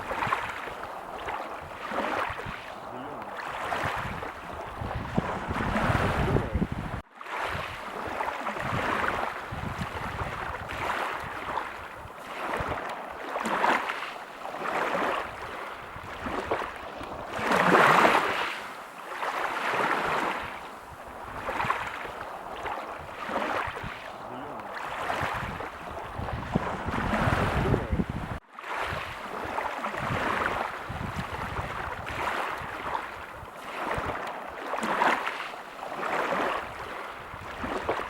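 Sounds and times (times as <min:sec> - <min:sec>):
ocean waves breaking on beach: 0:00.0 - 0:38.0.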